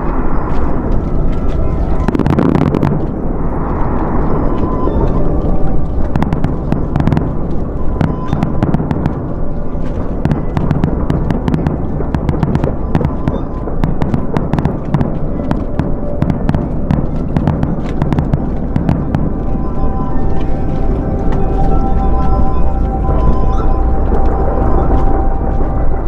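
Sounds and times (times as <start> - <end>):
fireworks crackling: 0.0 - 26.0
low rumble of fireworks bursts: 0.0 - 26.0.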